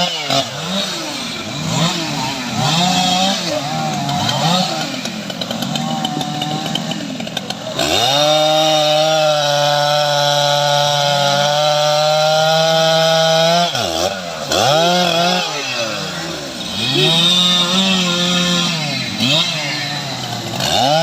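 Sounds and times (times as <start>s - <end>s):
chainsaw sawing wood: 0.0s - 21.0s.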